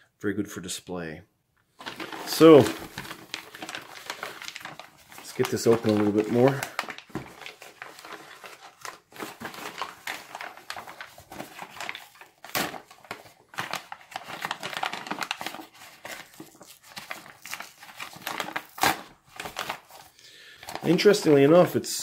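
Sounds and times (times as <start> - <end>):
foil paper bag crinkling: 1.8 - 21.6.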